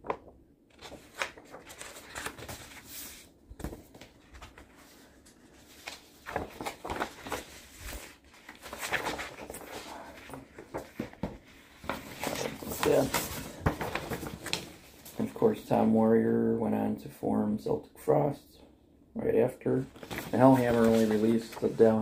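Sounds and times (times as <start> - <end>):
paper rustling and flapping: 0.0 - 15.6, 19.8 - 22.0.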